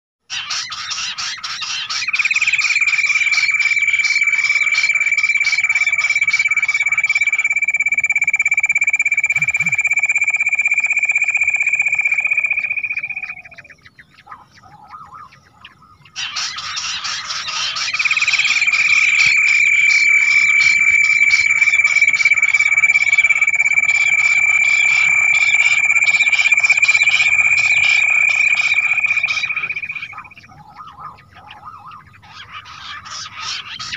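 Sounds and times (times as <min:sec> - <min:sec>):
quail call trill and whistle: 0:00.3 - 0:33.9.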